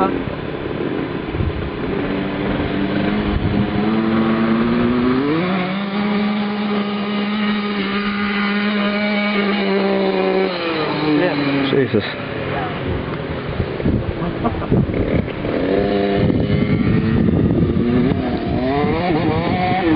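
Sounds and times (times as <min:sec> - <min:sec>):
motocross bike engine revving: 0:01.8 - 0:12.8, 0:14.0 - 0:19.9.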